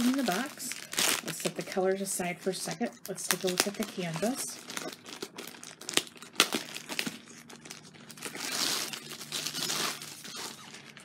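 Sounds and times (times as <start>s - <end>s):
plastic cover crinkling: 0.0s - 11.0s.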